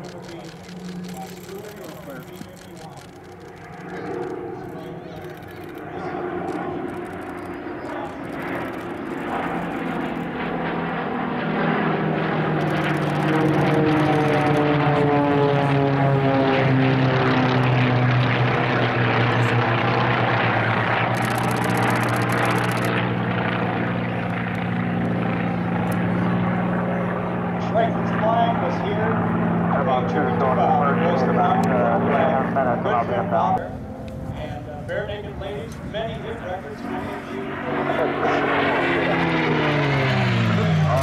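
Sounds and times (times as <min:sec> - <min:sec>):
propeller aircraft engines droning: 0:00.0 - 0:41.0.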